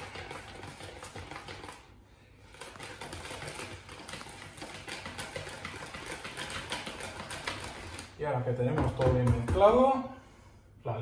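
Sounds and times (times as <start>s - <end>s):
rapid mixing in a bowl: 0.0s - 9.6s.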